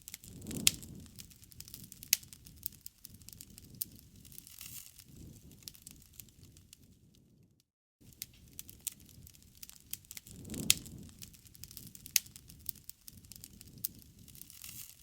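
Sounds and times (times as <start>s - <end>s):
low rush of flame: 0.0s - 15.0s
wood fire snaps and pops: 0.0s - 15.0s.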